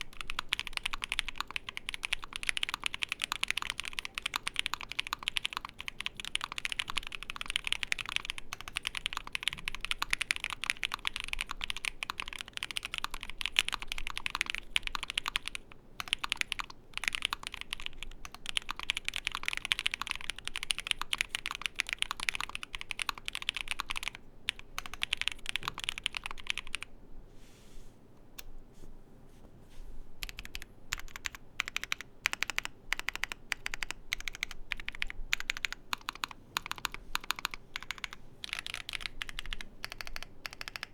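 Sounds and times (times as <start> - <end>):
mechanical keyboard typing: 0.0 - 26.9, 30.2 - 40.9.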